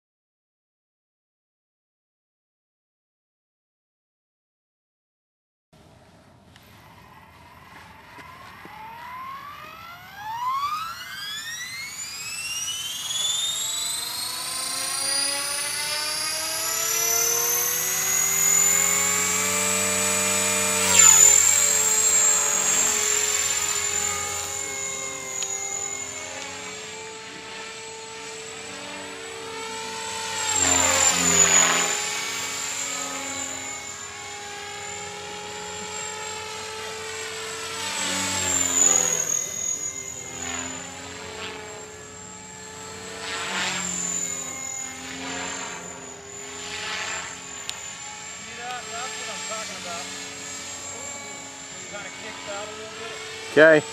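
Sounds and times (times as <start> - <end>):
electric helicopter motor whine: 6.6 - 53.9.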